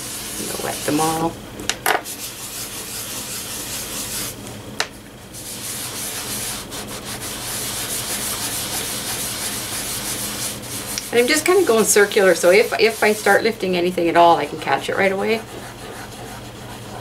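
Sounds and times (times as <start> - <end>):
fingertips scrubbing damp paper: 0.0 - 1.3, 2.1 - 4.4, 5.4 - 17.0.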